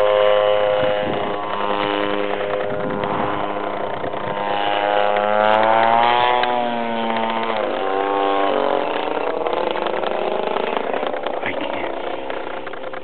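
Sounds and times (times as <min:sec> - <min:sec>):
model plane engine buzzing: 0:00.0 - 0:13.0.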